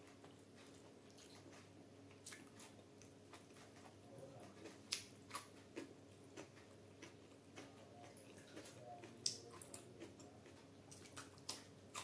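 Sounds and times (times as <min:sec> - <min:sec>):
wet chewing sounds: 0:00.0 - 0:12.0.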